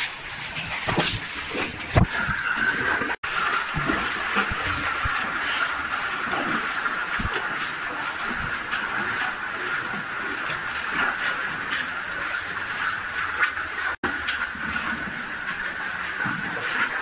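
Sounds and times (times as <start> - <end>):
water rushing through cave: 0.0 - 17.0.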